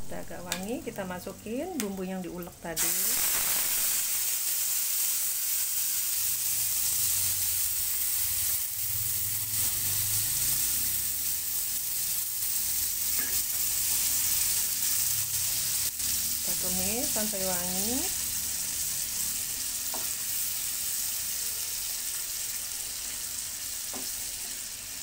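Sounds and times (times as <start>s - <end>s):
paste sizzling in hot oil: 2.4s - 25.0s.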